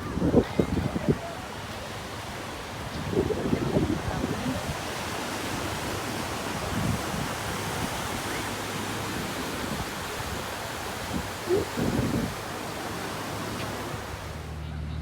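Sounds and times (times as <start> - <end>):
ocean surf rushing: 0.0 - 14.6
wind buffeting microphone: 0.0 - 14.6.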